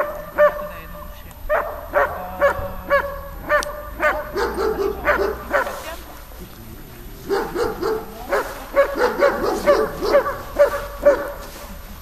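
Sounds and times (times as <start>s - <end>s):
dog barking: 0.0s - 6.0s, 7.2s - 11.8s.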